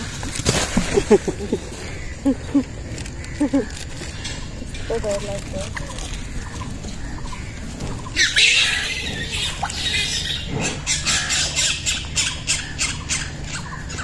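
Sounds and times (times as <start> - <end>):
harsh squawking animal calls: 1.8 - 14.0.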